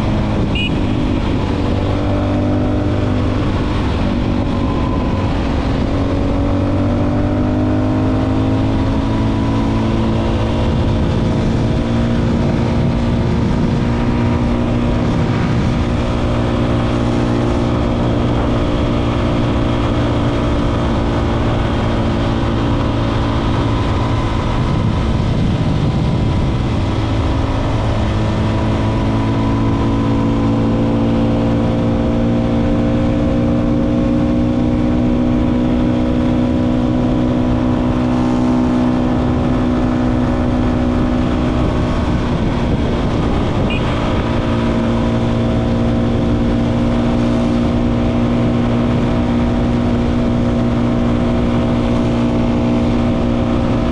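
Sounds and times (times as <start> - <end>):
low wind rush: 0.0 - 53.9
motorcycle engine running: 0.0 - 53.9.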